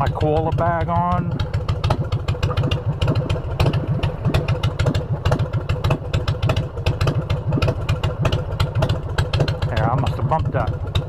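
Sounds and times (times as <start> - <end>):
motorcycle idling: 0.0 - 11.0.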